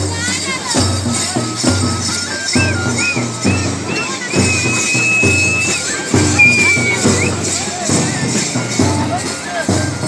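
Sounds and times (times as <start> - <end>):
drum beaten in steady rhythm: 0.0 - 10.0
high wind instrument melody: 0.8 - 10.0.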